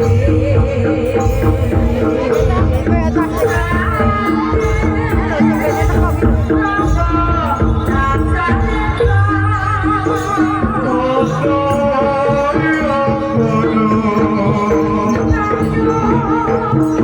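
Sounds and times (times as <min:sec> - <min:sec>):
drum strokes: 0:00.0 - 0:17.0
gong-chimes repeating notes: 0:00.0 - 0:17.0
high ornamented melody: 0:00.0 - 0:17.0.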